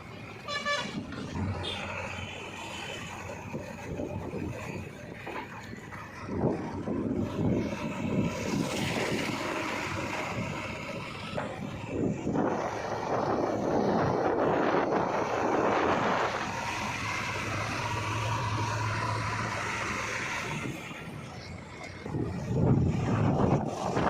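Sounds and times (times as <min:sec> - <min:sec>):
diesel engine running: 0:00.0 - 0:24.0
wind noise on microphone: 0:03.0 - 0:24.0.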